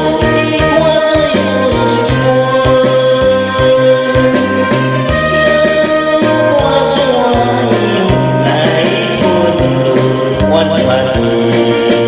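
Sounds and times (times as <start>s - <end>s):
karaoke backing track: 0.0s - 12.0s
man singing into microphone: 0.0s - 12.0s.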